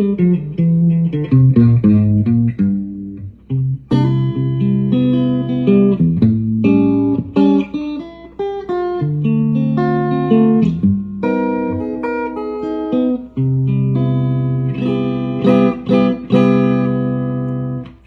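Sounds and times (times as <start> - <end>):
clean electric guitar: 0.0 - 18.0.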